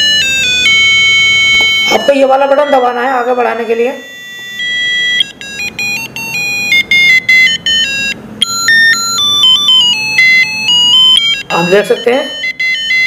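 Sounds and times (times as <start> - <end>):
alarm clock beeping tune: 0.0 - 13.0.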